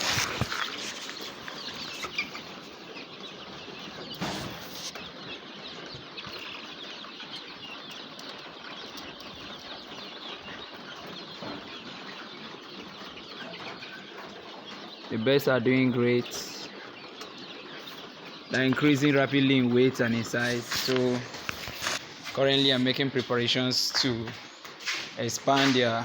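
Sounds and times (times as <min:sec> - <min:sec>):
chicks cheeping: 0:00.0 - 0:26.0.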